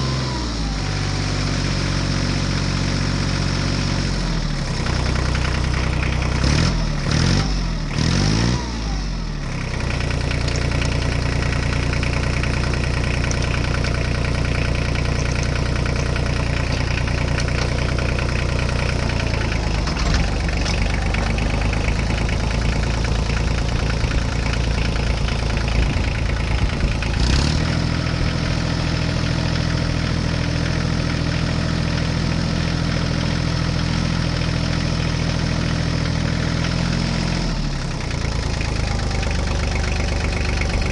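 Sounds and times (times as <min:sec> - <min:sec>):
diesel tractor engine: 0:00.0 - 0:40.9.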